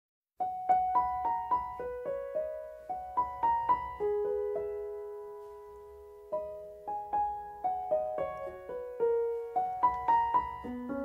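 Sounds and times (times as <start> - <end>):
solo piano melody: 0.4 - 11.0.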